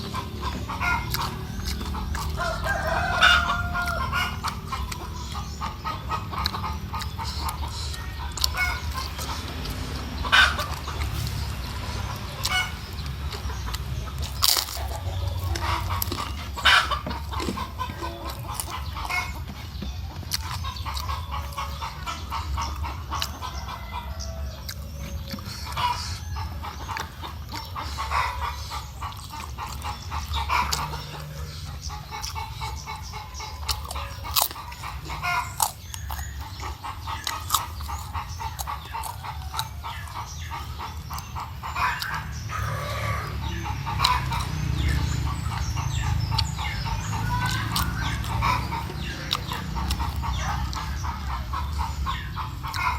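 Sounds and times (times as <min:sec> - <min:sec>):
chewing and crunching crackers: 0:00.0 - 0:52.9
chickens clucking: 0:00.0 - 0:52.9.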